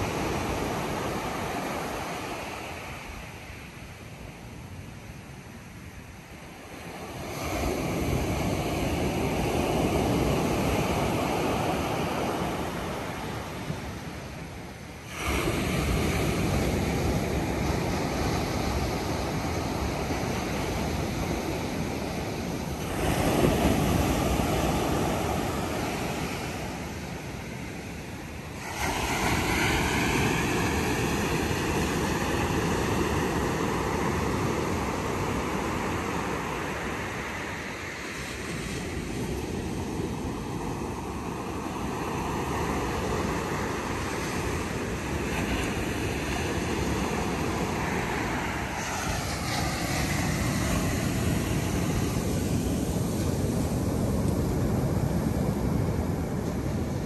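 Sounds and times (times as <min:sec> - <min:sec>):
ocean waves washing on beach: 0:00.0 - 0:57.0.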